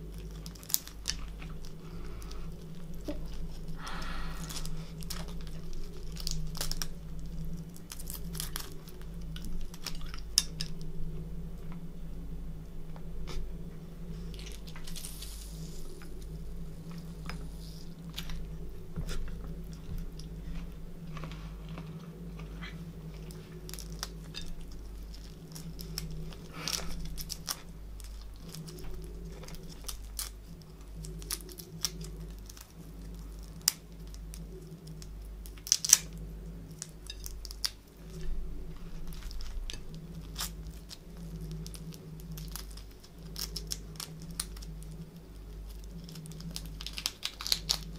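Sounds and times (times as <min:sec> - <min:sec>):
chewing: 0:00.0 - 0:10.9, 0:14.2 - 0:47.9
prawn shells crackling and snapping: 0:00.0 - 0:11.9, 0:12.8 - 0:47.9
steady low hum: 0:00.0 - 0:47.9.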